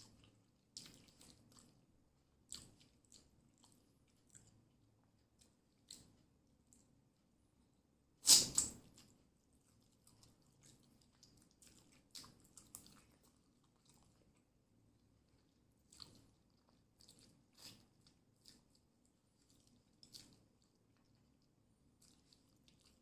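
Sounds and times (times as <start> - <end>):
person chewing food: 0.0 - 6.9, 8.3 - 23.0.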